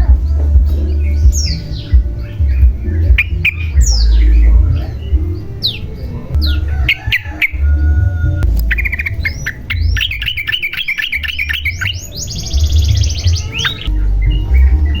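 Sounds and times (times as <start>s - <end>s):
bulbul singing: 0.0s - 15.0s.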